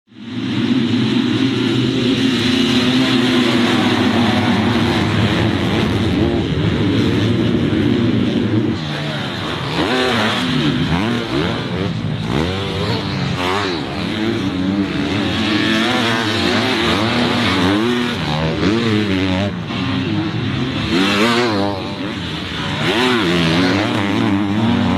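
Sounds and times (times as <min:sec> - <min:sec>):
motocross bike engines revving: 0:00.1 - 0:24.9.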